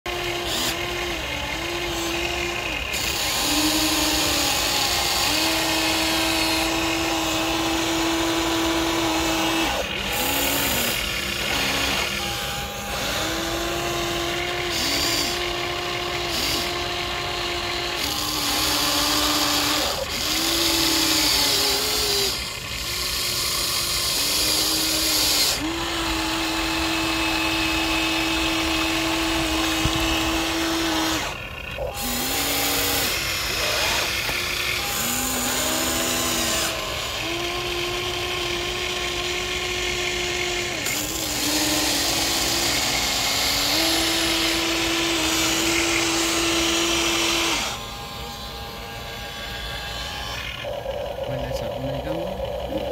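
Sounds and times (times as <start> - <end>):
toy vehicle electric motors whining: 0.1 - 52.9.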